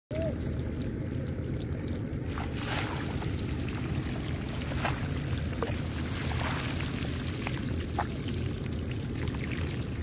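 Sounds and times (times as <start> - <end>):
low rumble: 0.1 - 10.0.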